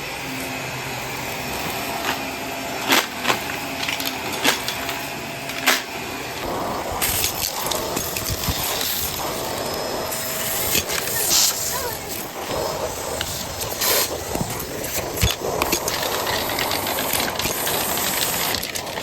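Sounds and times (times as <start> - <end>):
vacuum cleaner running: 0.0 - 19.0
debris clicking and rattling in vacuum: 0.3 - 19.0.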